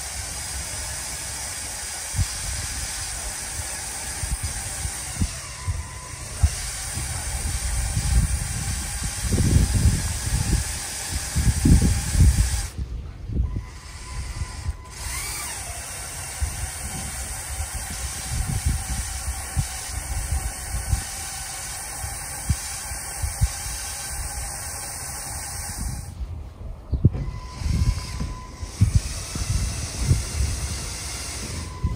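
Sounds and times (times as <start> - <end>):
faint electric motor whirr: 0.0 - 26.2, 27.0 - 31.9
wind buffeting microphone: 0.0 - 31.9.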